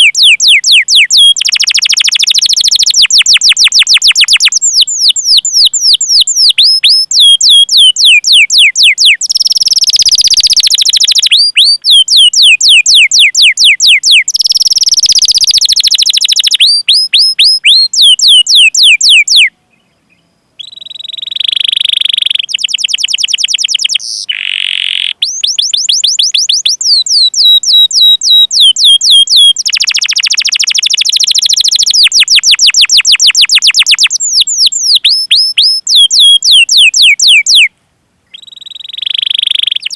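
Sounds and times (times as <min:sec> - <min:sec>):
canary singing: 0:00.0 - 0:37.7, 0:38.3 - 0:39.9.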